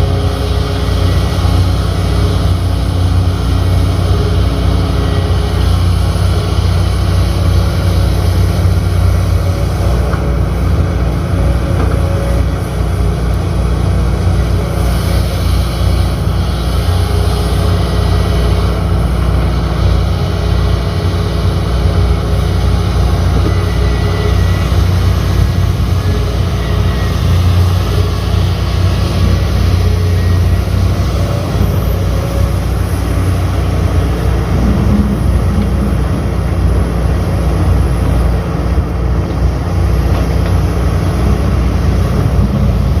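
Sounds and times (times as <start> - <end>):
heavy machinery diesel engine drone: 0.0 - 43.0.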